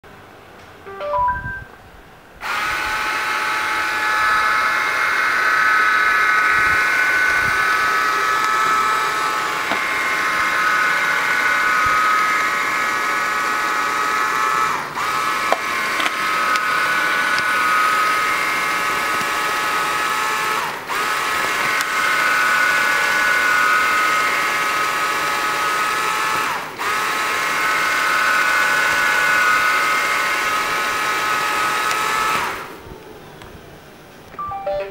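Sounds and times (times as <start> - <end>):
robot vacuum motor whine: 2.4 - 33.9.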